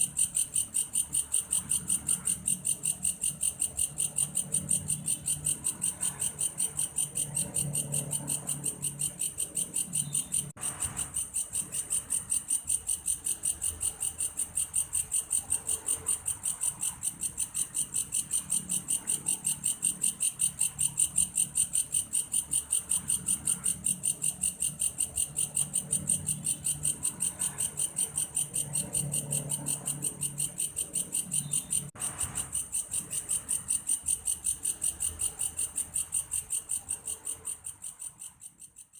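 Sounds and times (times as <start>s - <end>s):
grasshopper trilling: 0.0s - 38.9s.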